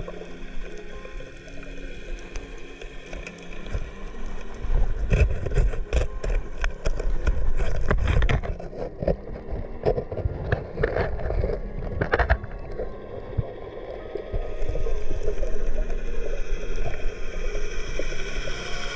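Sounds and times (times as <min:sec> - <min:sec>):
low rumble of moving water: 0:00.0 - 0:18.9
sharp underwater clicks and crackles: 0:00.0 - 0:18.9.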